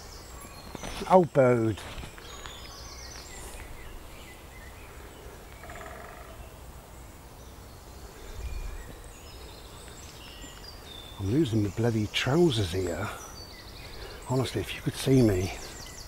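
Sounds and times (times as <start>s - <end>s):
distant birdsong: 0.0s - 16.0s
steady outdoor hiss: 0.0s - 16.0s.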